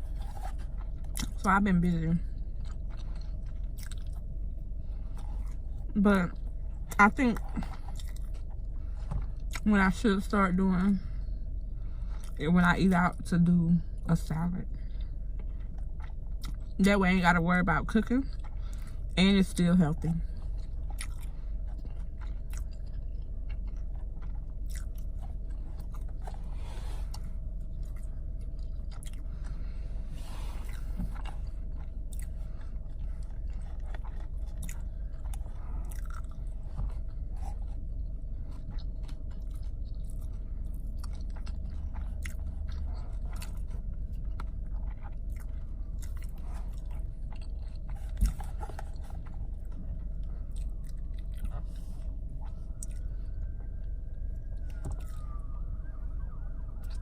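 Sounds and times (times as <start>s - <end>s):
chewing and biting: 0.0s - 10.3s, 11.0s - 57.0s
steady low hum: 0.0s - 57.0s.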